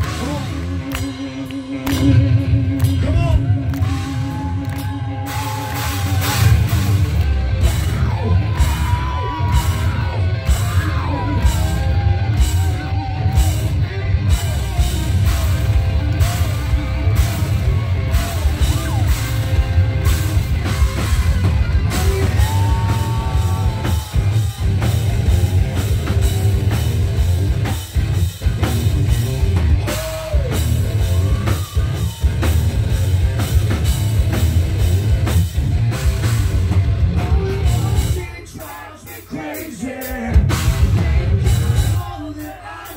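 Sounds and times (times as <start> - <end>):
distorted electric guitar: 0.0 - 38.4, 40.2 - 42.1
bass guitar: 0.0 - 42.9.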